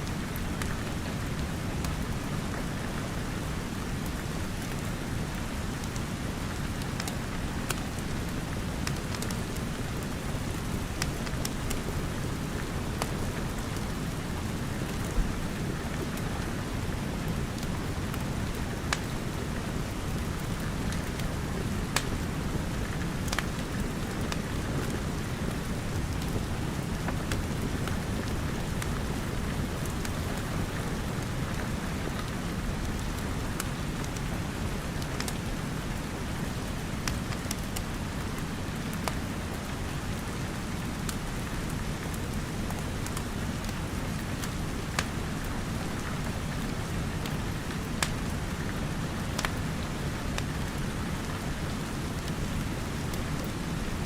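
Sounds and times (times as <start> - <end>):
steady rain: 0.0 - 54.0
wood fire crackling: 0.0 - 54.0.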